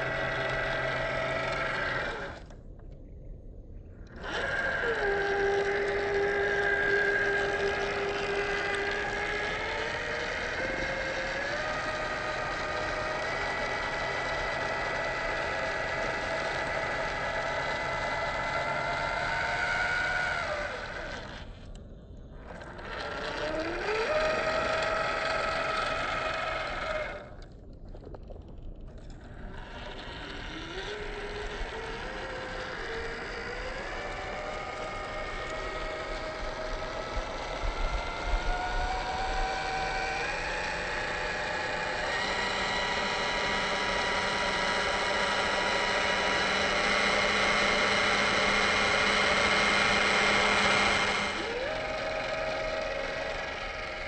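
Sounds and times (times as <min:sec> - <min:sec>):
rc car electric motor whine: 0:00.0 - 0:02.6, 0:04.1 - 0:21.7, 0:22.4 - 0:27.4, 0:29.4 - 0:54.0.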